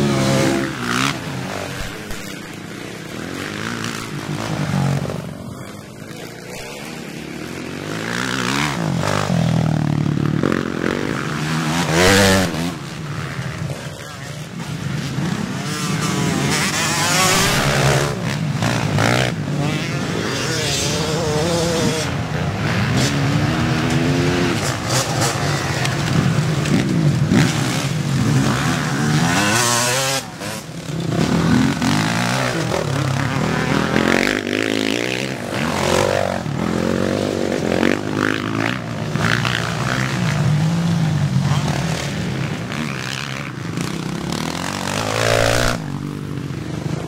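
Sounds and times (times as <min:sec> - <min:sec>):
motocross bike engines revving: 0:00.0 - 0:47.0.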